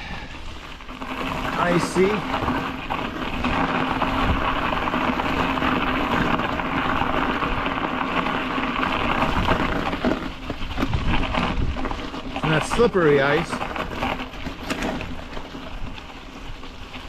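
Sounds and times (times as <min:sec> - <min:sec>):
bicycle tyres rolling on ice: 0:00.0 - 0:17.0
bike rattling over bumps: 0:00.0 - 0:17.0.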